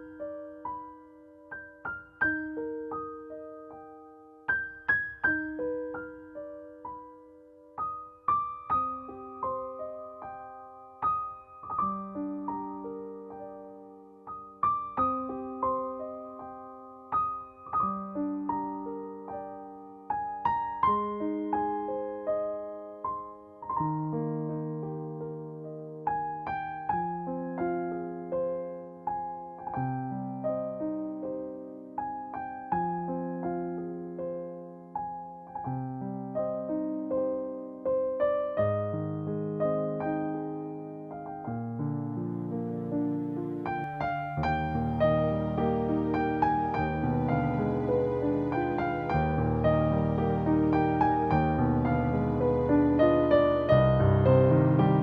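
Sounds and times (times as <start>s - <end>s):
soft piano music: 0.0s - 55.0s.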